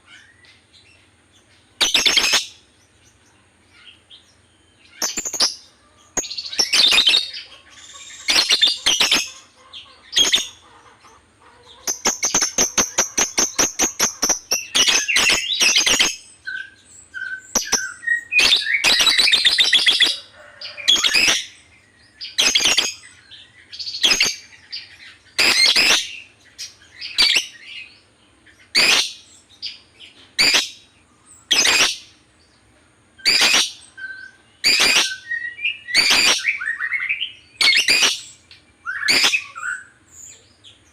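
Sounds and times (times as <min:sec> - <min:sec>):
bird chattering: 0:00.0 - 0:27.9, 0:28.6 - 0:32.2, 0:33.2 - 0:40.9
lovebird chirping: 0:00.0 - 0:40.9.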